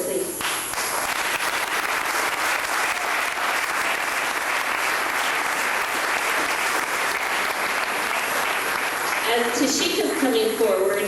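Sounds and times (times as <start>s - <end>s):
audience clapping: 0.4s - 10.4s.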